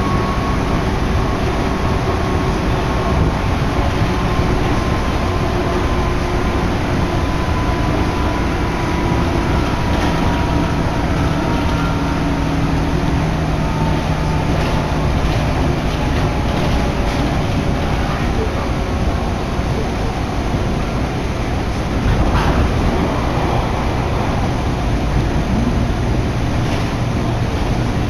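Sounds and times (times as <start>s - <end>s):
train interior rumble: 0.0s - 28.0s.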